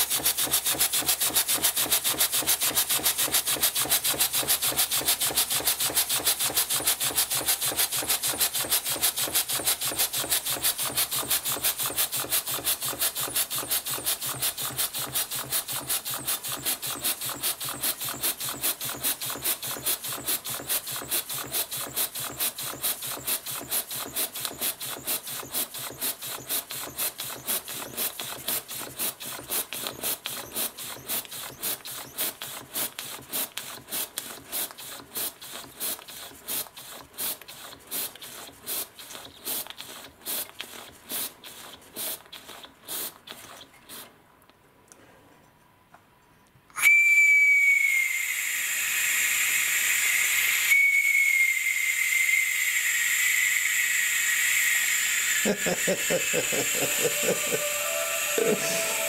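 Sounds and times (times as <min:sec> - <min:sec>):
model steam engine chuffing: 0:00.0 - 0:43.2, 0:47.9 - 0:59.0.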